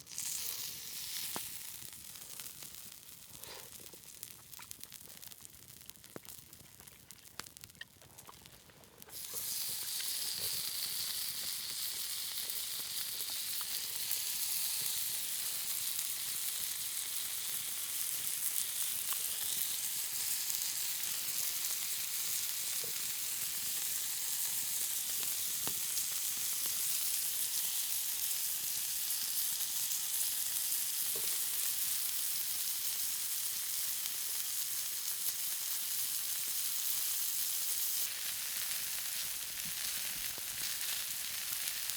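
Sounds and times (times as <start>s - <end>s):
meat sizzling on hot stone: 0.0s - 41.9s.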